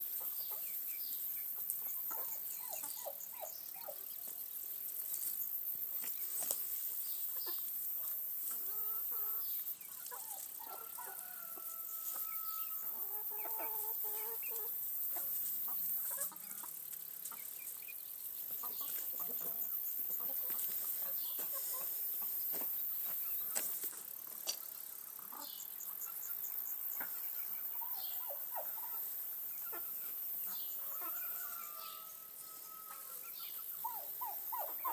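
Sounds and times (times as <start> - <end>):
chickens clucking: 0.0 - 4.4, 5.8 - 34.9
steady high hiss: 0.0 - 34.9.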